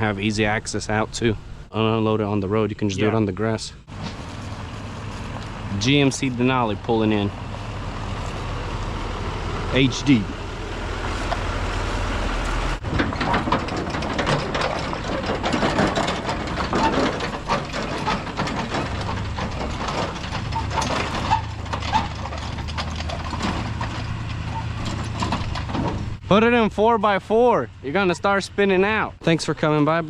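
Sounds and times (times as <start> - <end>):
pickup truck engine running: 3.8 - 30.0.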